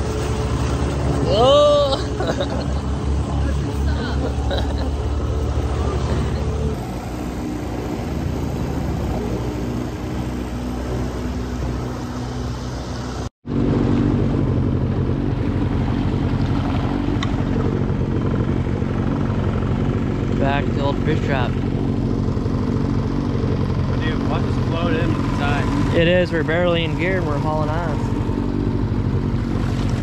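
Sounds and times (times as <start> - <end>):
boat motor running: 0.0 - 30.0
water noise: 0.0 - 30.0.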